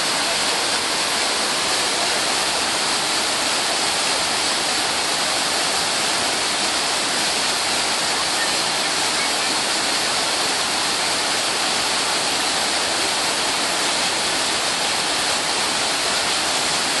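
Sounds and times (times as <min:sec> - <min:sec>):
water rushing over a weir: 0:00.0 - 0:17.0.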